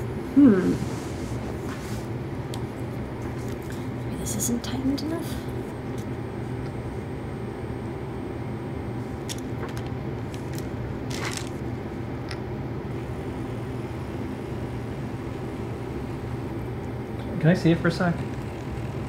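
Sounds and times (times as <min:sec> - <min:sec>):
motor humming: 0:02.4 - 0:19.0.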